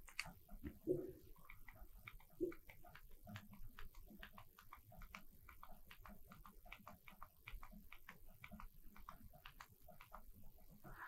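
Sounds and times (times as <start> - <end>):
faint irregular ticks: 0.0 - 11.0.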